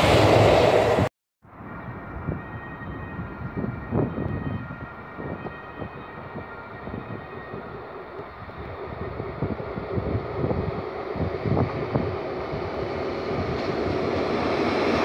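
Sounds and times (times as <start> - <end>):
distant train running: 0.0 - 15.0
wind buffeting microphone: 0.0 - 15.0.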